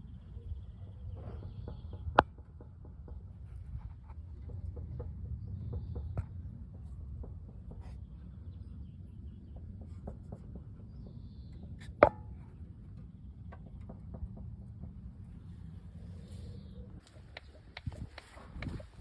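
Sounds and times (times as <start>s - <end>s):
suspension clicks and knocking: 0.8s - 8.5s, 9.2s - 15.8s, 17.0s - 19.0s.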